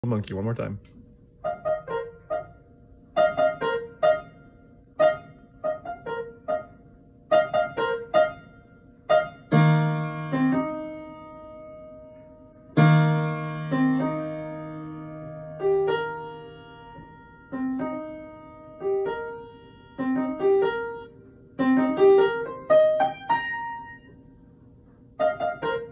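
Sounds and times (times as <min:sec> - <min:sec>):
child playing piano: 0:01.4 - 0:24.2, 0:25.2 - 0:25.9.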